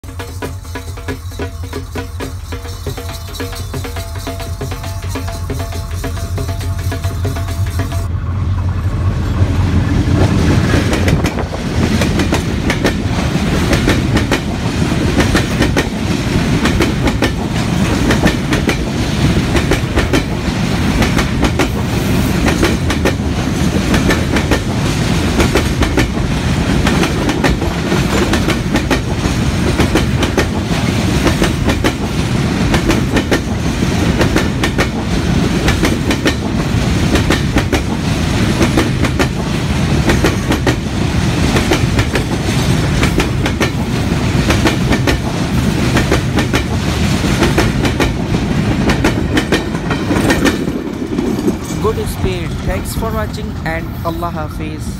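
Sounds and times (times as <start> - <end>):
train wheels clickety-clack: 0.0 - 53.5
locomotive engine hum: 0.1 - 54.9.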